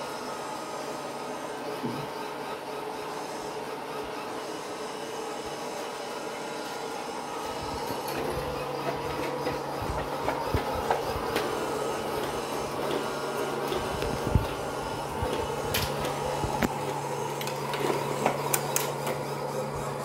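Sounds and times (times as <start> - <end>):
robot cleaner motor hum: 0.0 - 20.0.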